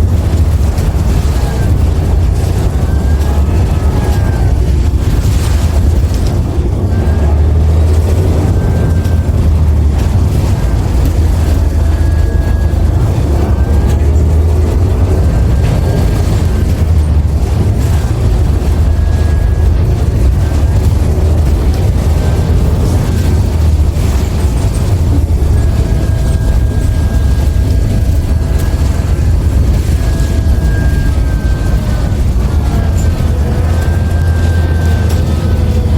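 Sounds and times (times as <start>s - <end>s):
bus drivetrain rumble: 0.0s - 35.9s
faint drive whine: 0.0s - 35.9s.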